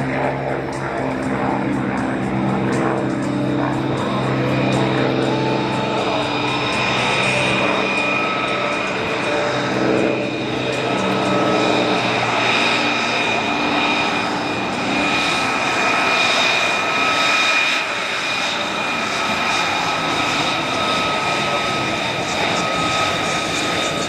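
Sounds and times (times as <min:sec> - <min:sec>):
aircraft engine whine: 0:00.0 - 0:24.0.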